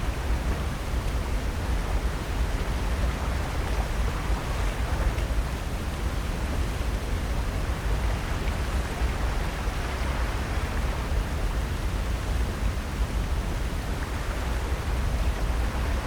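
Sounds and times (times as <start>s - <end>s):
ocean surf on shore: 0.0s - 16.0s.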